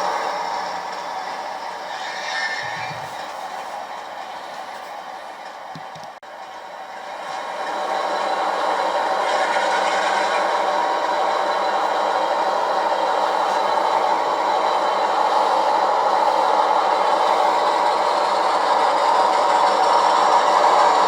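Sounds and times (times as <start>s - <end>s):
model locomotive running: 0.0s - 21.0s.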